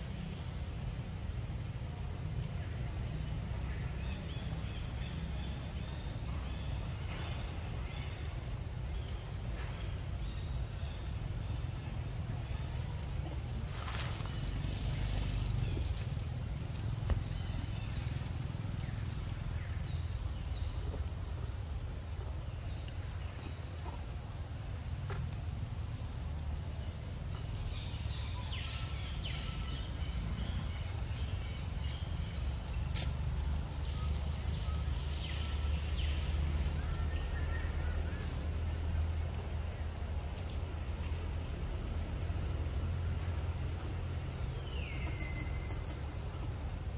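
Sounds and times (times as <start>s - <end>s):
insects trilling: 0.0s - 46.9s
low constant rumble: 0.0s - 46.9s.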